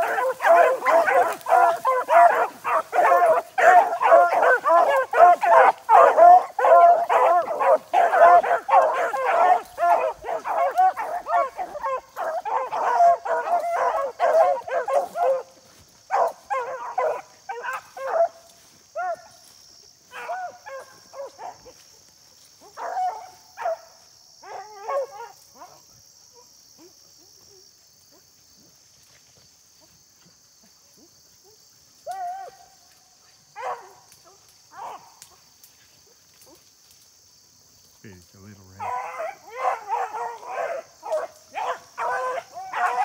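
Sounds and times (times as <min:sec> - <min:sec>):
hounds baying: 0:00.0 - 0:28.2, 0:31.0 - 0:32.8, 0:33.4 - 0:35.4, 0:38.4 - 0:43.0.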